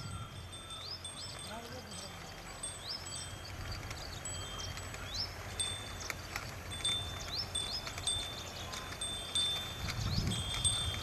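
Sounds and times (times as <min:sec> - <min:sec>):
birds whistling: 0:00.0 - 0:11.0.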